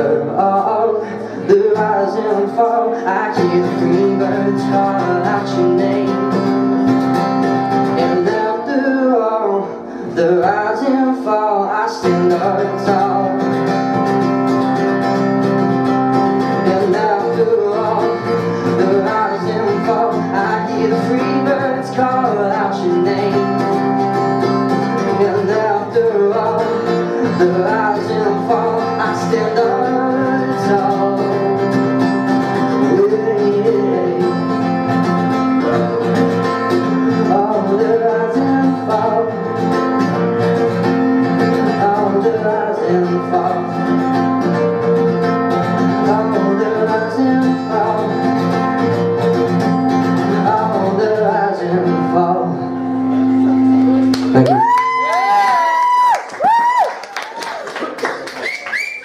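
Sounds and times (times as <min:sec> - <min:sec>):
man singing folk song: 0:00.0 - 0:54.4
strummed acoustic guitar: 0:00.0 - 0:54.4.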